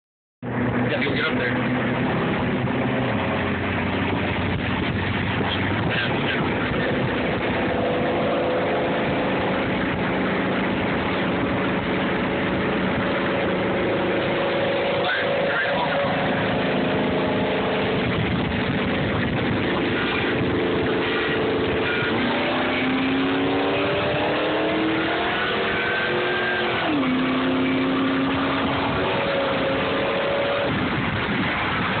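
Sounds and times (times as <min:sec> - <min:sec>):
engine accelerating hard: 0:00.4 - 0:32.0
wind and road noise: 0:00.4 - 0:32.0.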